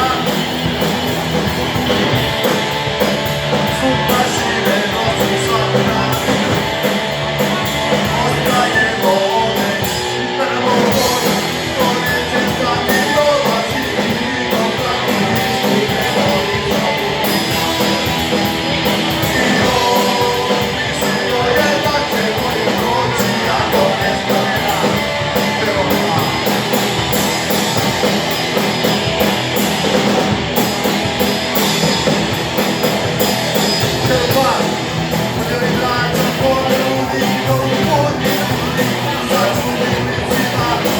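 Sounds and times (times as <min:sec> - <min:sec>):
person singing: 0:00.0 - 0:01.0, 0:01.7 - 0:28.1, 0:33.6 - 0:40.9
drums: 0:00.0 - 0:40.9
electric guitars: 0:00.0 - 0:40.9.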